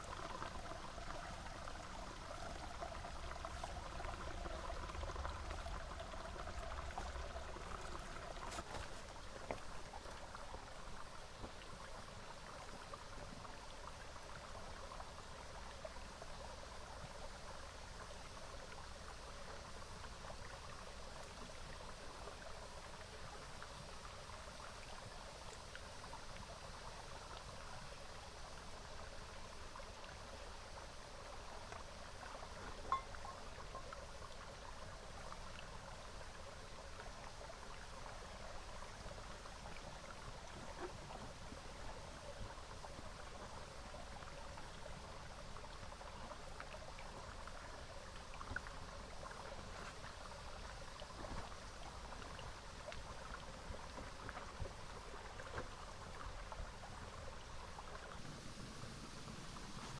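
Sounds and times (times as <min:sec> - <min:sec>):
small river water flowing: 0:00.0 - 0:59.9.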